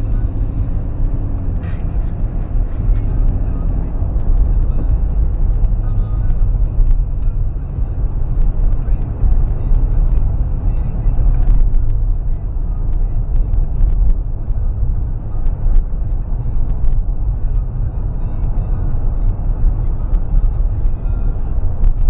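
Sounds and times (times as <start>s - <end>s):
road and engine rumble: 0.0s - 22.0s.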